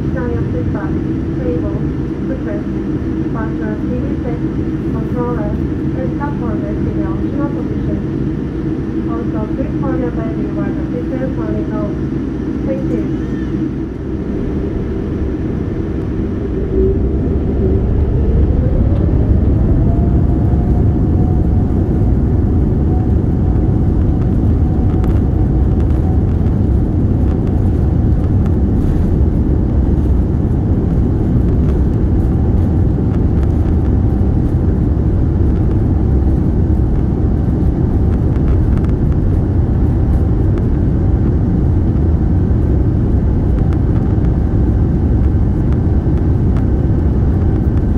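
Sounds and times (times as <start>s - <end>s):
heavy rumble: 0.0s - 47.9s
jet engines spooling up: 0.0s - 47.9s
rising engine whine: 0.0s - 47.9s.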